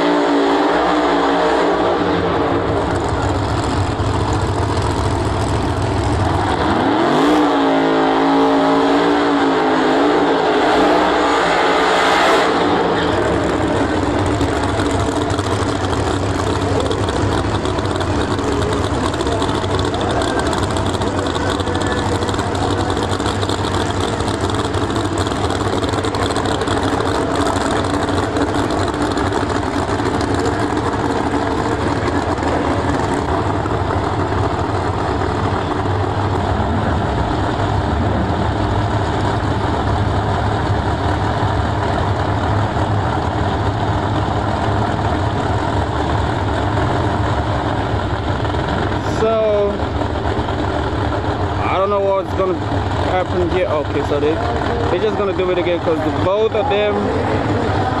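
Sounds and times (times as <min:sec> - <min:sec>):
drag race car engines idling: 0:00.0 - 0:58.0.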